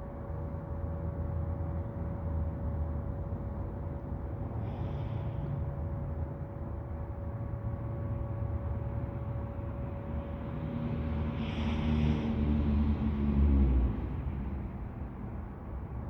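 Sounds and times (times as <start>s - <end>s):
faint constant hum: 0.0s - 13.2s.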